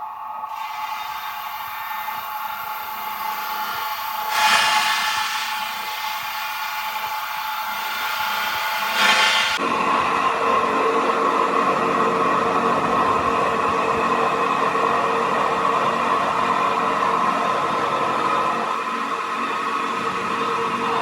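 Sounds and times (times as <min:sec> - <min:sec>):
machine whining over hum: 0:00.0 - 0:21.0.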